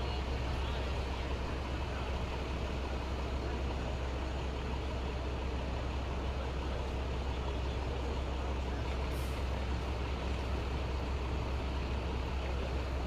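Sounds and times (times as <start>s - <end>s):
diesel buses idling: 0.0s - 13.0s.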